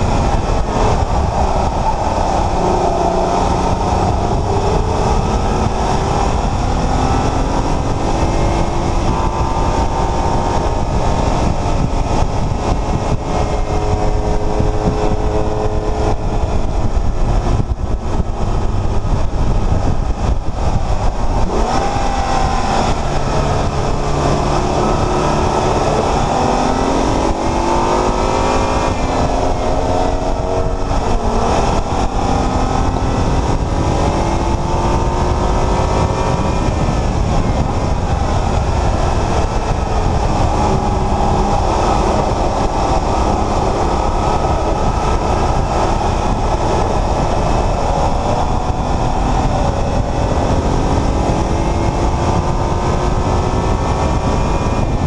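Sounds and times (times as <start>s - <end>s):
car engine accelerating: 0.0s - 55.0s
road and wind noise: 0.0s - 55.0s.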